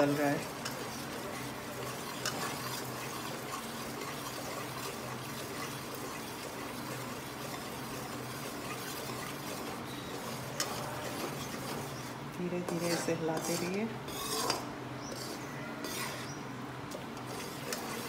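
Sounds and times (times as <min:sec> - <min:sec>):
flour sizzling in a pan: 0:00.0 - 0:18.0
metal ladle scraping a pan: 0:00.0 - 0:18.0.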